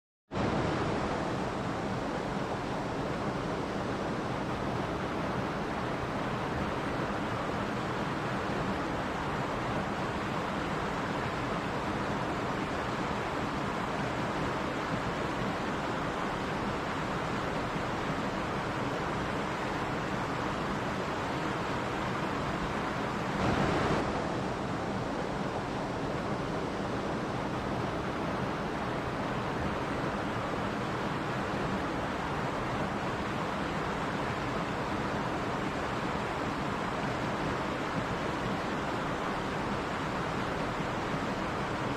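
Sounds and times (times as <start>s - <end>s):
stream rushing over rocks: 0.4s - 41.9s.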